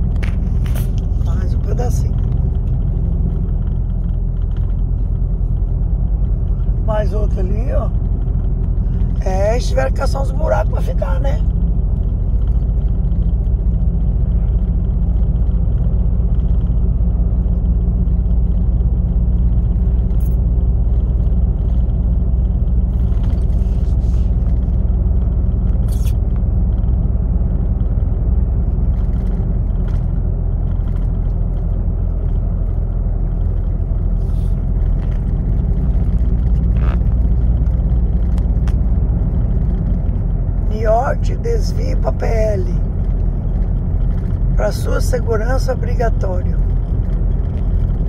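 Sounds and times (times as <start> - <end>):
lorry engine and tyre rumble: 0.0 - 48.0.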